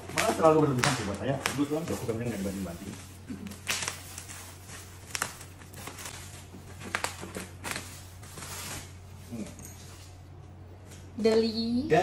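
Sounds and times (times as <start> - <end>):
bubble wrap crinkling: 0.0 - 10.4.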